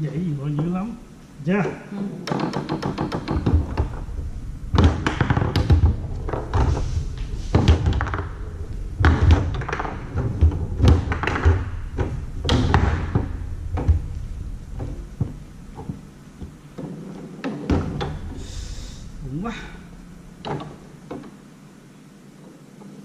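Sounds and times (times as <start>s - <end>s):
foosball ball and rods knocking: 1.6s - 21.4s.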